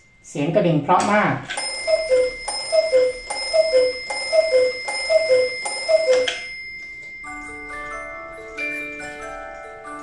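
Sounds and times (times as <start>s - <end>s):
bell ringing: 1.5s - 10.0s
cuckoo clock call: 1.5s - 10.0s.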